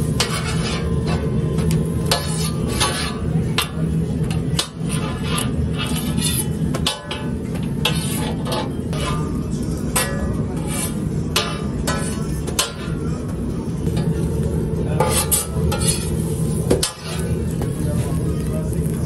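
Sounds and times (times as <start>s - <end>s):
metal spatulas clanking on griddle: 0.0s - 14.2s, 14.9s - 17.8s.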